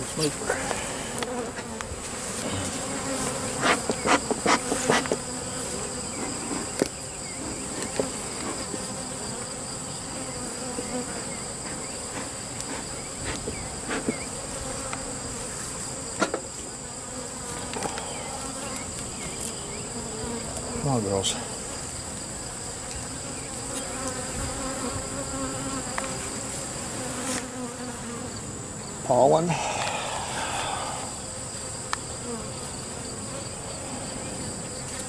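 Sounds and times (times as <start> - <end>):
honey bees buzzing: 0.0 - 35.0.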